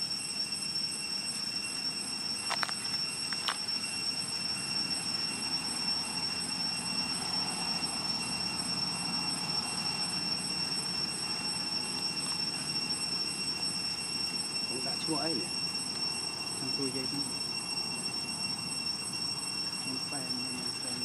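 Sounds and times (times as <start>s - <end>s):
high-pitched whine: 0.0s - 21.0s.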